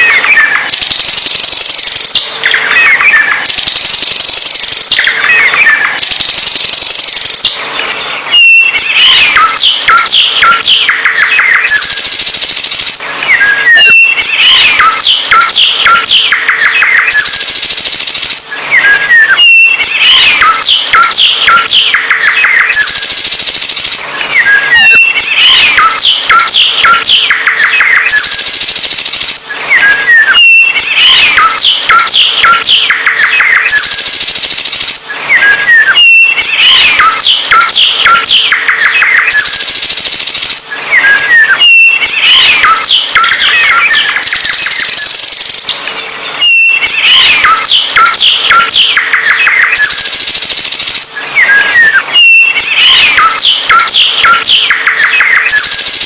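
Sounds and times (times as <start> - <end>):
songbird singing: 0.0 - 55.8.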